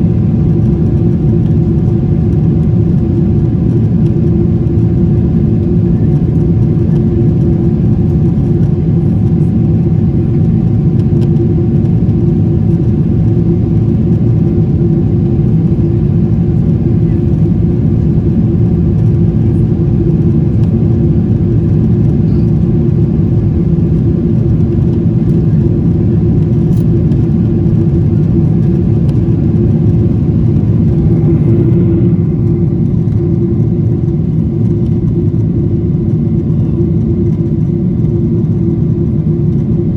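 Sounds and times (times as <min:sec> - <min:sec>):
airplane engine drone: 0:00.0 - 0:39.9.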